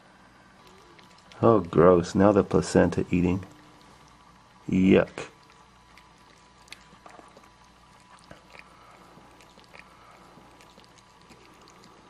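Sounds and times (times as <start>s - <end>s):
low steady hiss: 0.0s - 12.0s
cat chewing and licking: 0.5s - 12.0s.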